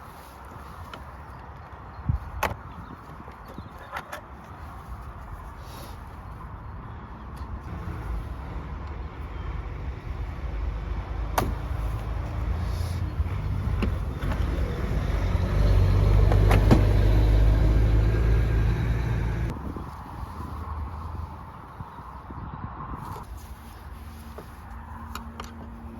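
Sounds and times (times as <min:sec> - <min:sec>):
vehicle engine rumbling: 0:00.0 - 0:25.9.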